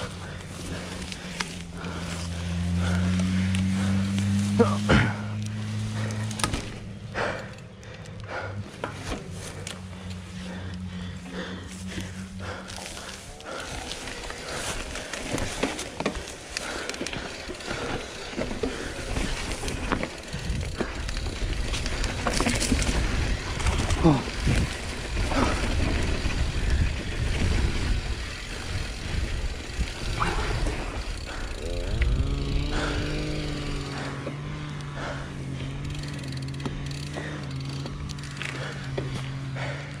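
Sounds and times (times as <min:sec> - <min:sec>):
bike rattling clicks and knocks: 0:00.0 - 0:40.0
bike tyres rumbling on trail: 0:00.0 - 0:40.0
engine running steadily: 0:00.0 - 0:40.0.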